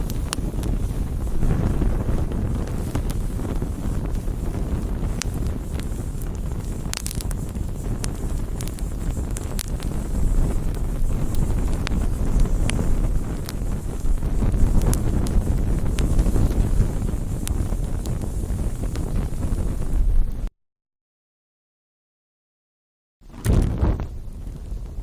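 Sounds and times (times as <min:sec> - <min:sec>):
wood fire crackling: 0:00.0 - 0:20.5, 0:23.3 - 0:25.0.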